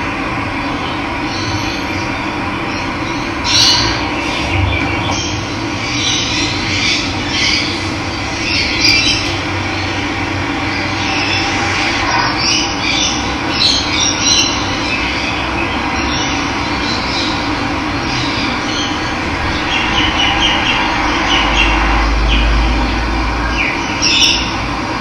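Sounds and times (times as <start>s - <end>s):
birds calling: 0.6s - 24.8s.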